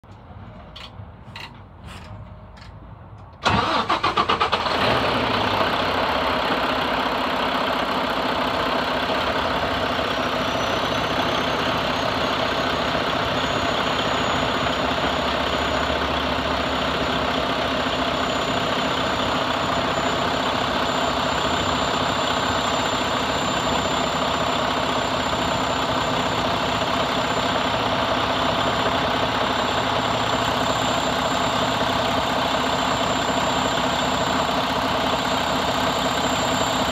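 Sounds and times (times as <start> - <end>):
diesel engine cranking and idling: 0.0 - 36.9.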